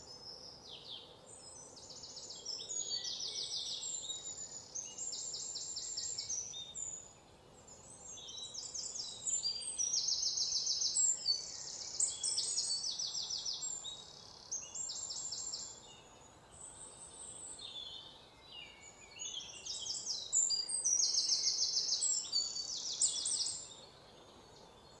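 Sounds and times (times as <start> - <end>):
faint outdoor hiss: 0.0 - 25.0
small birds chirping: 0.0 - 25.0.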